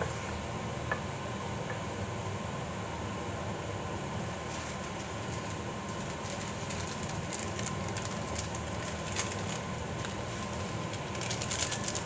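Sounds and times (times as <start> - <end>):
pork cooking in a pot: 0.0 - 12.0.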